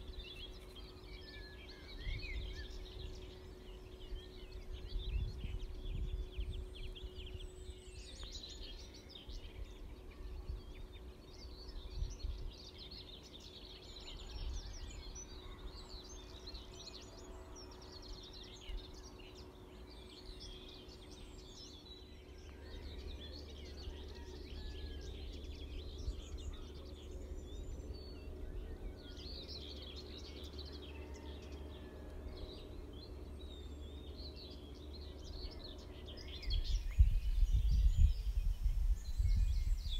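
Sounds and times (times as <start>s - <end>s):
faint steady hum: 0.0s - 39.9s
songbirds singing: 0.0s - 39.9s.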